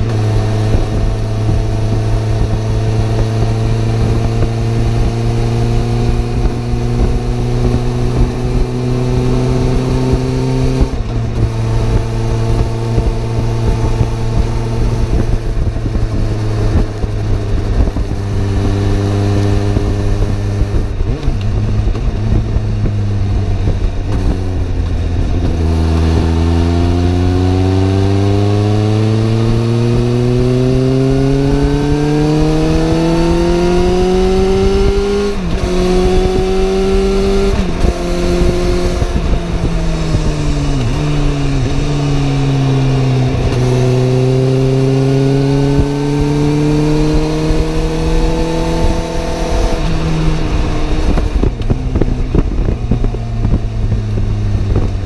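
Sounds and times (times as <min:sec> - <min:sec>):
motorcycle engine accelerating: 0:00.0 - 0:55.0
wind and road rush: 0:00.0 - 0:55.0.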